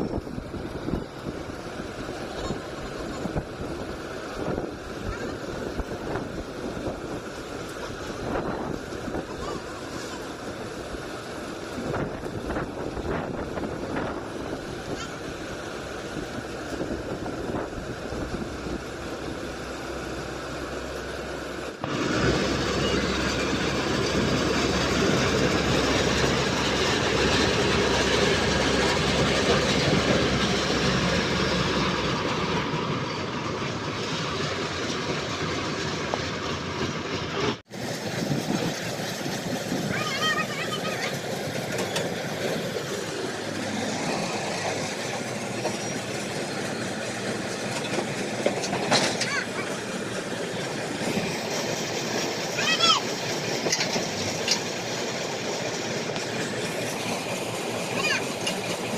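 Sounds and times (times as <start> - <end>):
combine harvester running: 0.0 - 58.9.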